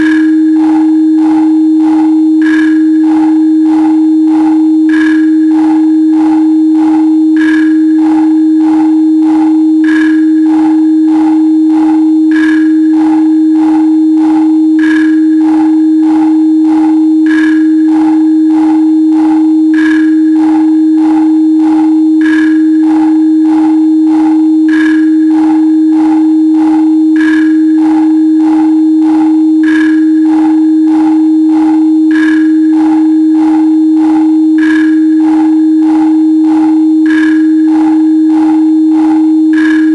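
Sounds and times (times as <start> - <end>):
pure sine tone: 0.0 - 39.9
synthesised beat pulsing: 0.0 - 39.9.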